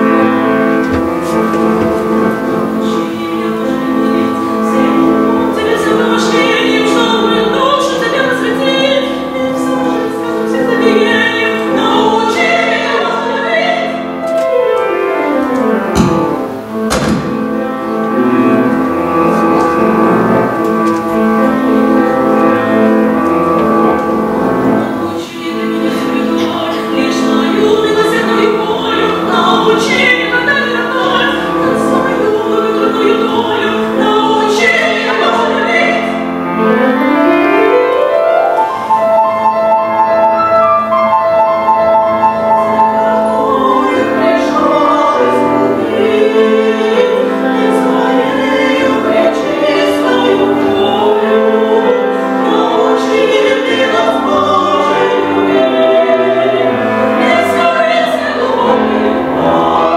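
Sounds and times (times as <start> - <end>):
women singing in harmony: 0.0 - 16.8, 17.6 - 38.0, 41.5 - 59.9
piano accompaniment: 0.0 - 59.9.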